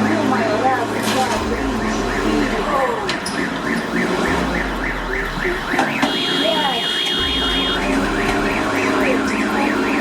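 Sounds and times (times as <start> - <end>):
warbling siren alarm: 0.0 - 10.0
high-pitched beep: 0.3 - 10.0.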